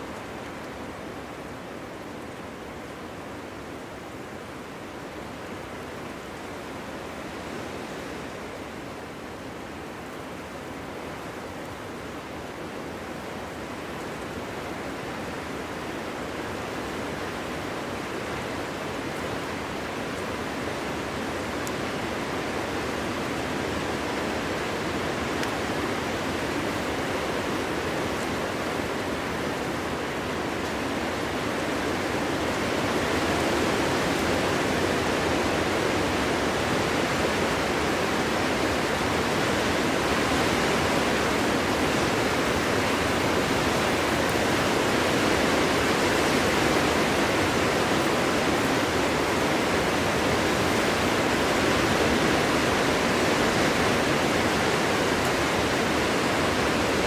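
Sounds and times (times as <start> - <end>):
wind blowing through forest: 0.0 - 57.0.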